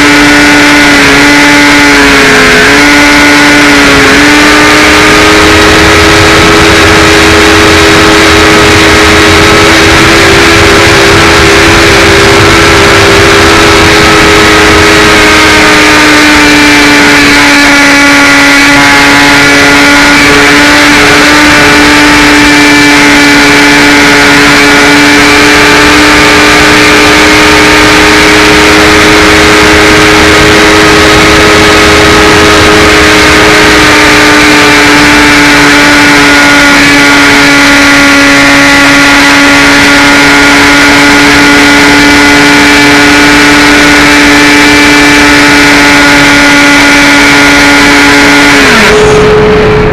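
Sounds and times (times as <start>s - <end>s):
model glider motor hum: 0.0s - 49.9s.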